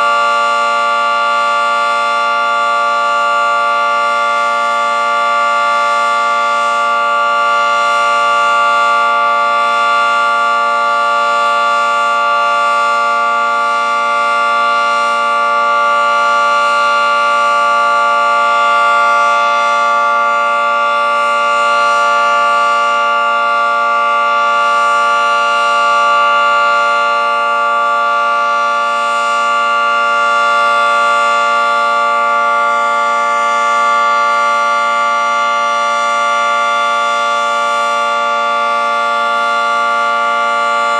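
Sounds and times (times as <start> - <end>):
dual-tone warning siren: 0.0 - 40.9.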